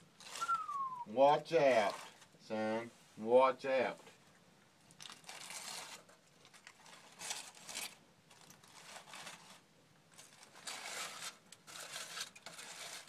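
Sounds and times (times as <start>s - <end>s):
aluminum foil crinkling: 0.0s - 2.4s, 4.8s - 13.0s.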